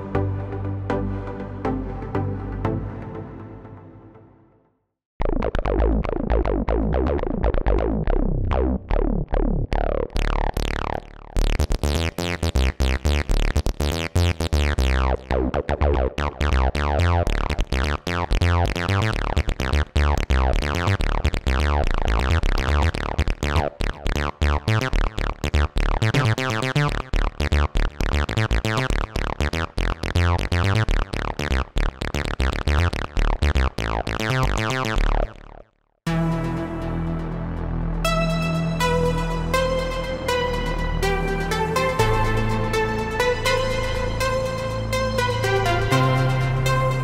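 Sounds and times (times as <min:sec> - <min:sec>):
pulsing deep bass: 0:05.2 - 0:47.0
synthesizer short repeated notes: 0:05.2 - 0:47.0.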